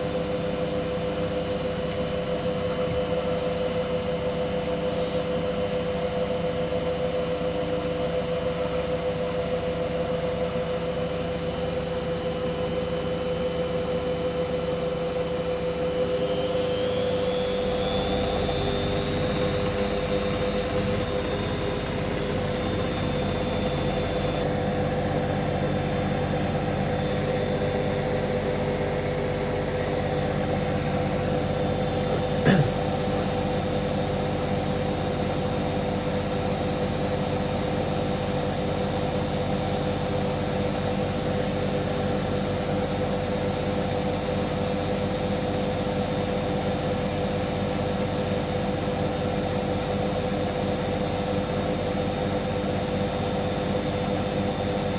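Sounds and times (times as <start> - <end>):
washing machine spinning: 0.0 - 54.9.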